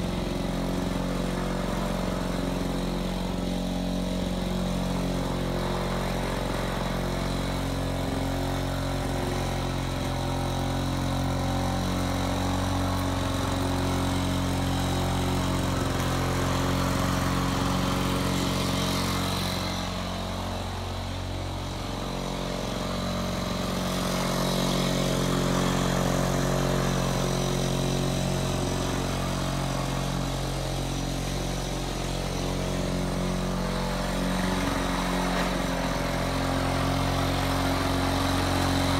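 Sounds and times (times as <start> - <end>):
push mower engine running: 0.0 - 38.9.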